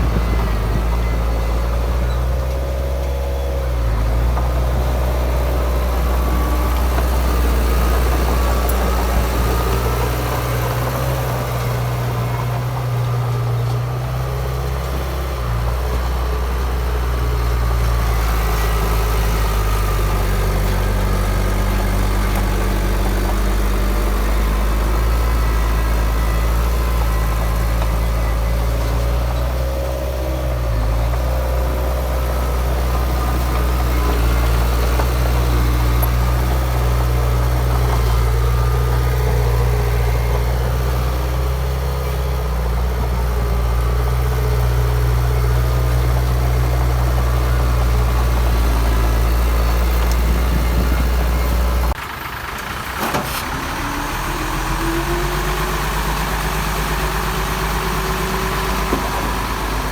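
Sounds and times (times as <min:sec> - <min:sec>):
engine whine: 0:00.0 - 0:59.9
heavy diesel engine humming: 0:00.0 - 0:59.9.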